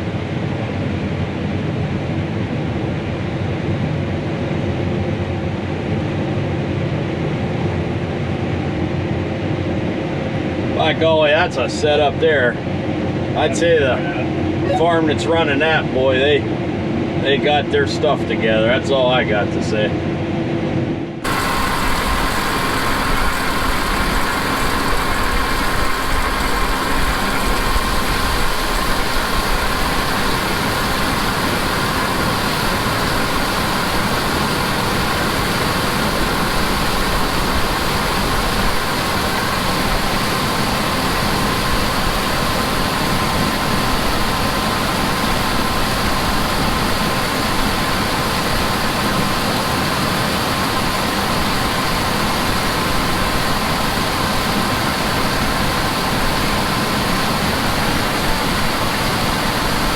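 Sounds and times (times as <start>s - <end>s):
farm machinery engine drone: 0.0s - 59.9s
steady machine whine: 10.2s - 59.9s.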